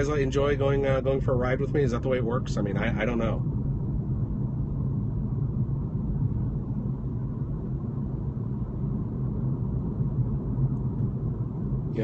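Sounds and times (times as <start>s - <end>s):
road and wind noise in car cabin: 0.0s - 12.0s.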